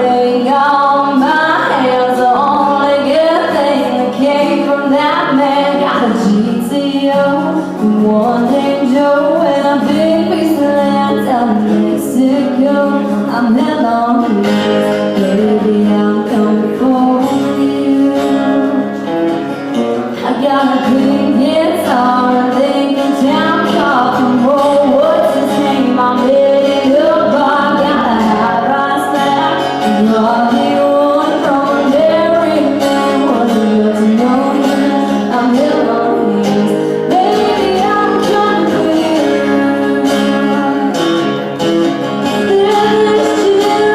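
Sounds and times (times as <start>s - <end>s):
strummed acoustic guitar: 0.0s - 43.9s
woman singing country song: 0.0s - 43.9s.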